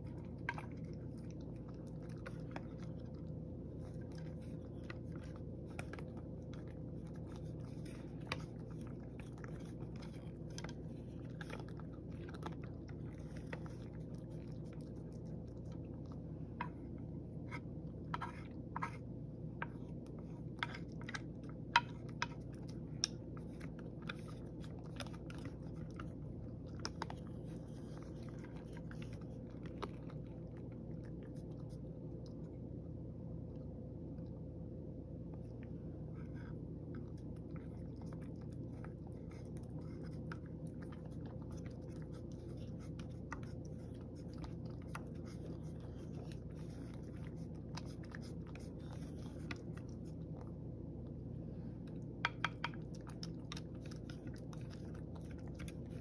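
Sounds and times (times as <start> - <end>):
cat crunching food: 0.0 - 56.0
steady low hum: 0.0 - 56.0.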